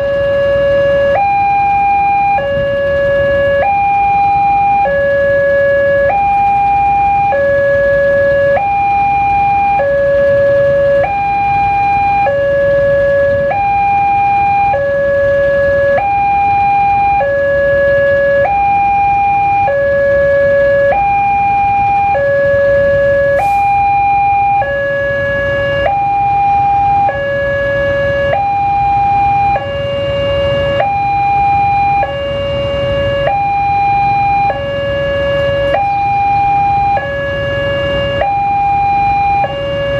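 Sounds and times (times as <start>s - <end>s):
two-tone level crossing alarm: 0.0s - 39.9s.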